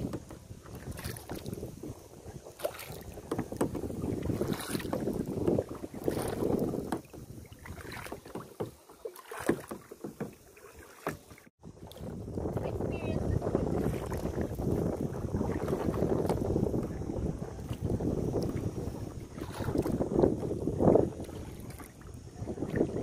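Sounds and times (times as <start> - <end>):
wind buffeting microphone: 0.0 - 8.7, 11.6 - 23.0
kayak paddle splashing: 0.0 - 23.0
water lapping at hull: 0.0 - 23.0.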